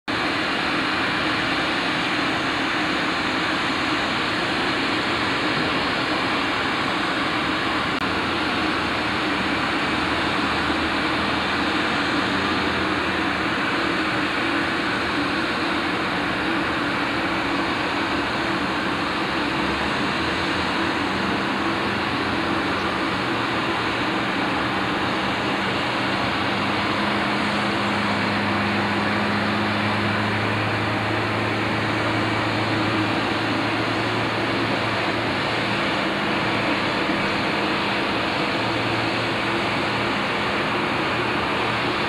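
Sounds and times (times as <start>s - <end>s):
jet engine rushing hiss: 0.1s - 42.0s.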